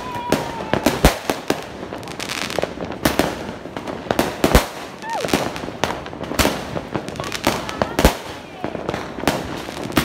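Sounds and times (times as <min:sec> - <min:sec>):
firework bangs and pops: 0:00.0 - 0:10.0
firework tube firing shots: 0:00.0 - 0:10.0.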